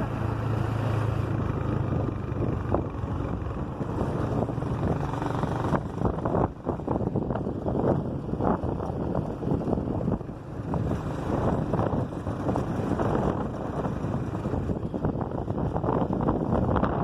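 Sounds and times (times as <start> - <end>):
vehicle rumbling on road: 0.0 - 17.0
wind buffeting microphone: 1.2 - 17.0.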